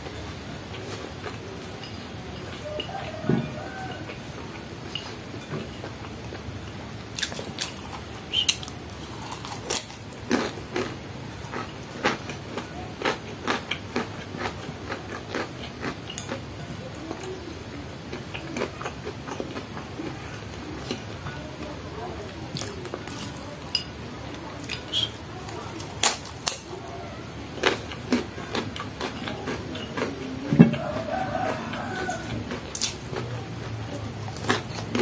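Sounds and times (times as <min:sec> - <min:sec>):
person chewing crunchy food: 0:00.1 - 0:17.4, 0:18.0 - 0:21.3, 0:22.5 - 0:24.0, 0:24.6 - 0:35.0.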